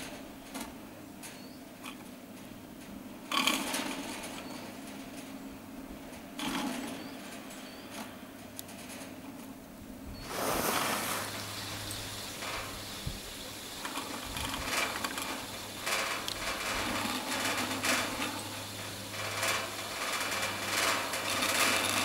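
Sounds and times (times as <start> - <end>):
lift rope humming over rollers: 0.0 - 22.0.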